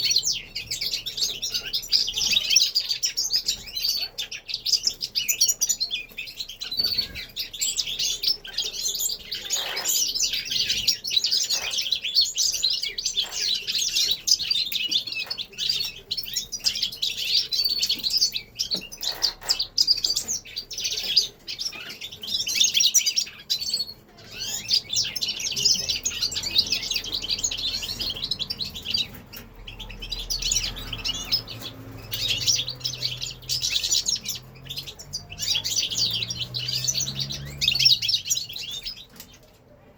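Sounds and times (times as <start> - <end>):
finches chirping and singing: 0.0 - 39.6.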